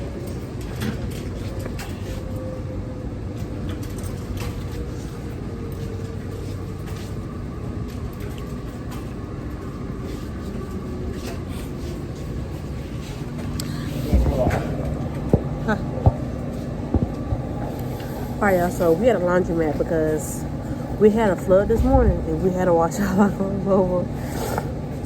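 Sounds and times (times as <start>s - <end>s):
faint hum falling in pitch: 0.0s - 25.0s
low mechanical rumble: 0.0s - 25.0s.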